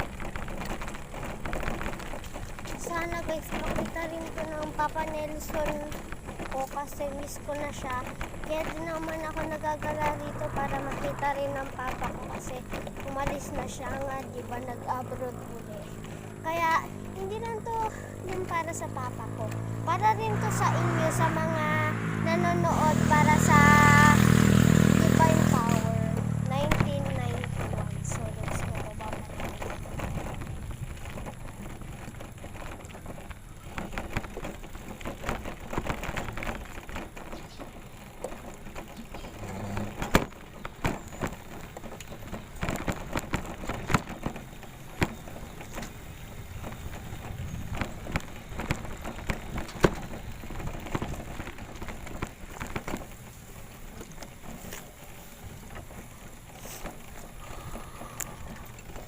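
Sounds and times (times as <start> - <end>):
bicycle rattling knocks: 0.0 - 59.0
bicycle tyres crunching: 0.0 - 59.0.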